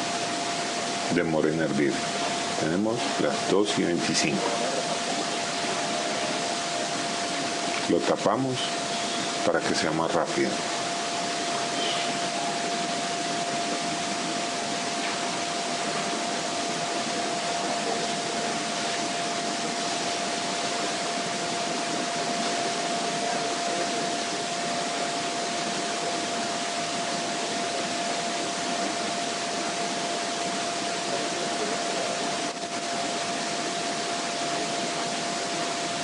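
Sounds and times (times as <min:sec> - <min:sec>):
stove burning with rushing hiss: 0:00.0 - 0:36.0
thin steady tone: 0:00.0 - 0:36.0.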